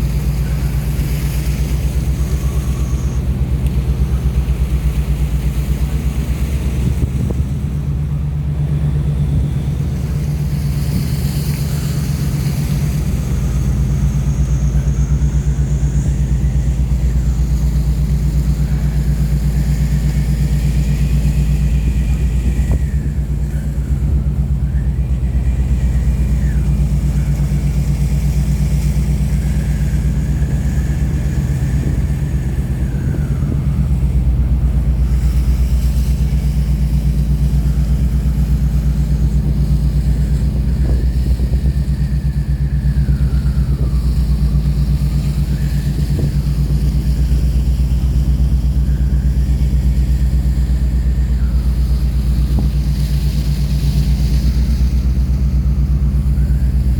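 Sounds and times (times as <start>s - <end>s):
low engine drone: 0.0s - 56.9s
whine sliding in pitch: 0.0s - 56.9s.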